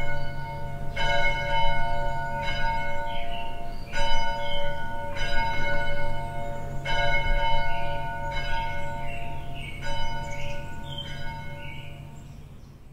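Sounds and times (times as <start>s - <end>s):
church bell tolling: 0.0s - 12.4s.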